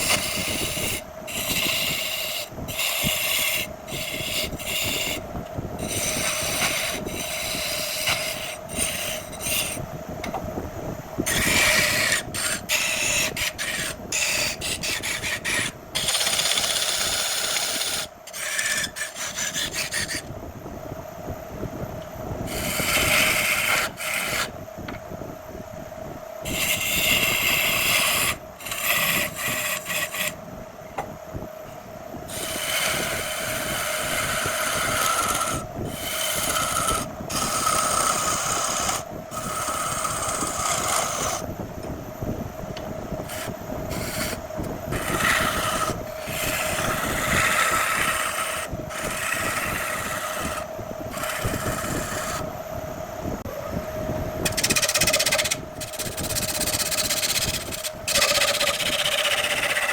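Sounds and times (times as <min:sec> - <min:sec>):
turning tool cutting wood: 0:00.0 - 0:05.2, 0:05.8 - 0:09.8, 0:11.3 - 0:20.3, 0:22.5 - 0:24.5, 0:26.5 - 0:30.4, 0:32.3 - 0:41.5, 0:43.2 - 0:52.5, 0:54.4 - 0:59.9
wood lathe humming: 0:00.0 - 0:05.2, 0:05.8 - 0:09.8, 0:11.2 - 0:20.3, 0:22.5 - 0:24.5, 0:26.4 - 0:30.4, 0:32.3 - 0:41.5, 0:43.2 - 0:52.5, 0:54.4 - 0:59.9.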